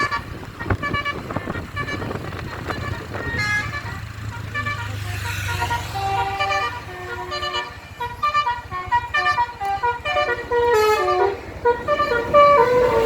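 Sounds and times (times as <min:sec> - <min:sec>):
bus horn playing a melody: 0:00.0 - 0:13.0.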